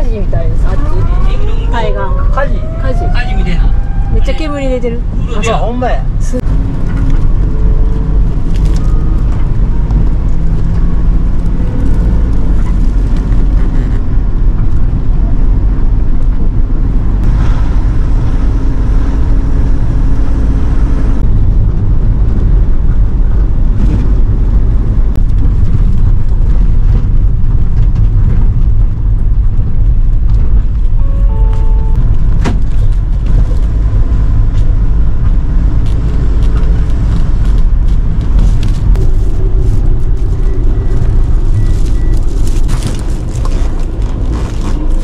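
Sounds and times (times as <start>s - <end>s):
bus engine and road rumble: 0.0s - 45.0s.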